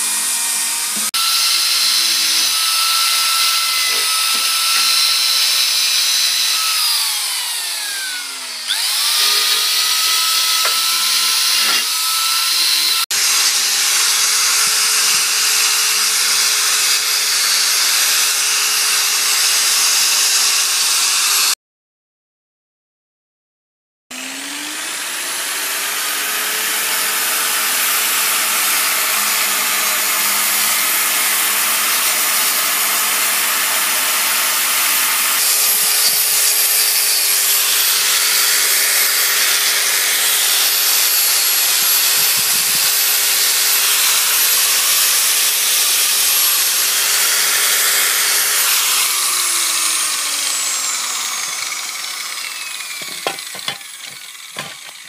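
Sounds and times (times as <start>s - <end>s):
angle grinder grinding metal: 0.0s - 21.6s, 24.1s - 55.0s.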